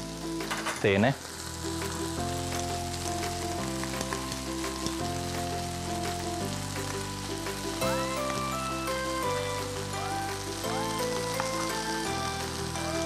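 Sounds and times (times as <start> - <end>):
background music with held chords: 0.0 - 13.0
food sizzling in a frying pan: 0.0 - 13.0.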